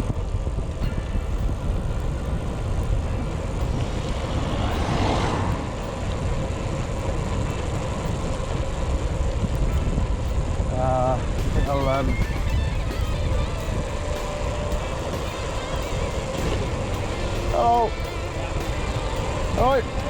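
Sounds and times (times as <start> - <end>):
bike tyres rolling on tarmac: 0.0 - 20.0
wind rumbling on microphone: 0.0 - 20.0.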